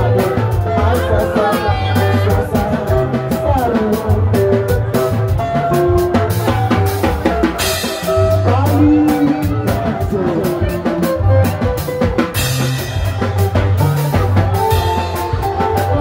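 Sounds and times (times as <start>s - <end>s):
bass guitar: 0.0s - 16.0s
drum kit: 0.0s - 16.0s
electric guitar melody: 0.0s - 16.0s.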